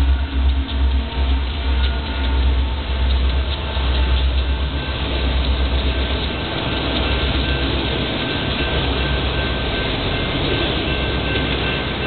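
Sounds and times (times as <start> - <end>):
diesel locomotive rumble: 0.0 - 12.0
rail cars rolling on rails: 0.0 - 12.0.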